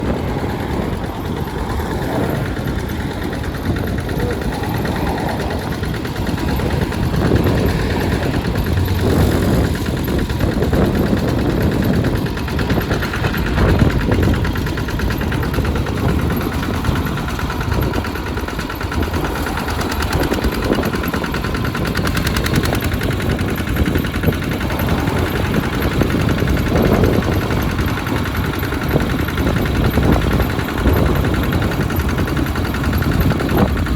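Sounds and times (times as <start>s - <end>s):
diesel engine knocking: 0.0s - 33.9s.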